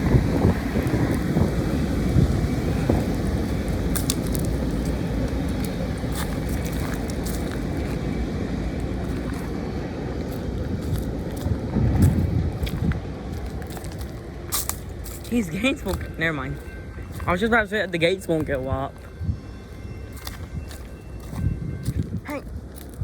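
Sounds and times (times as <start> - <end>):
freight train rumbling: 0.0 - 23.0.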